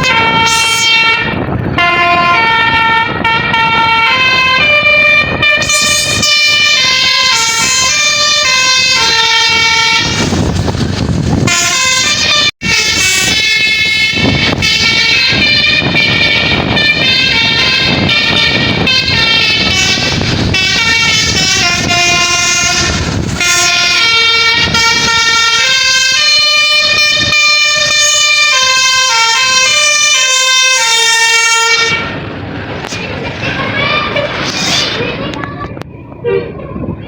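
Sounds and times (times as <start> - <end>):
bus horn playing a tune: 0.0 - 10.6, 11.3 - 32.2
vehicle rumble: 0.0 - 37.0.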